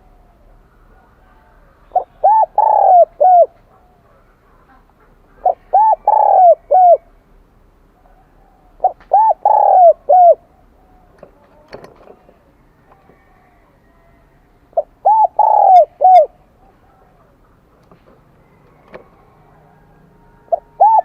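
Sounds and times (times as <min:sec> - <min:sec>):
dove cooing: 0:00.0 - 0:07.2, 0:08.0 - 0:11.4, 0:12.3 - 0:21.0.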